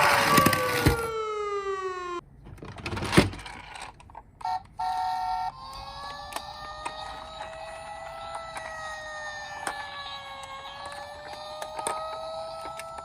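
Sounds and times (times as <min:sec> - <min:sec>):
toy electronic siren wail: 0:00.0 - 0:02.2, 0:04.4 - 0:13.0.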